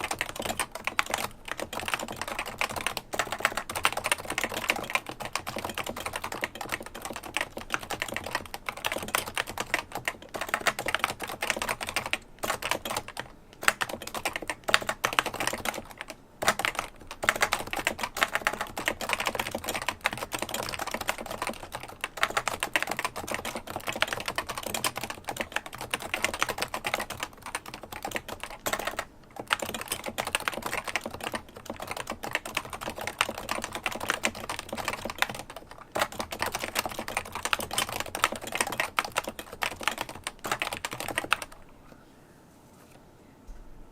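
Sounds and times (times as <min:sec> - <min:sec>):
fast typing on keyboard: 0:00.0 - 0:41.6.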